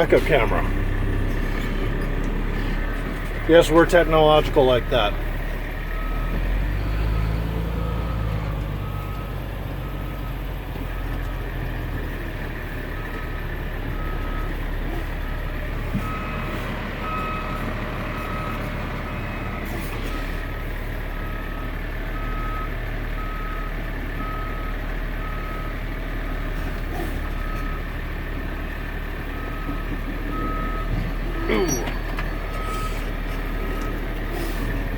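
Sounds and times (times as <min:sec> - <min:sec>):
diesel engine running: 0:00.0 - 0:34.9
truck backup alarm beeping: 0:00.0 - 0:34.9.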